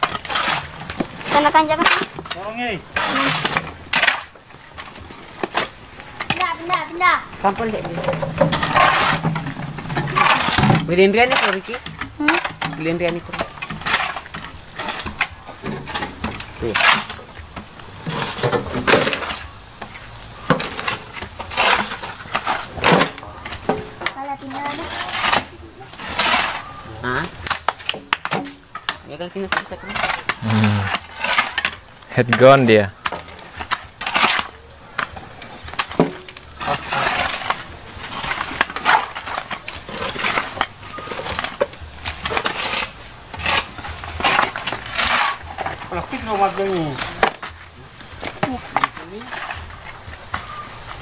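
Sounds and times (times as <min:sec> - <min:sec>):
shovels scraping into dirt and stones: 0:00.0 - 0:51.0
soil tipped into metal wheelbarrow: 0:07.4 - 0:17.4, 0:18.0 - 0:49.7.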